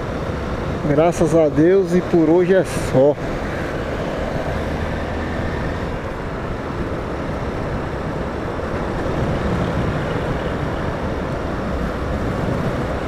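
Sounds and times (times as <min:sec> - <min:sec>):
road noise rushing: 0:00.0 - 0:13.0.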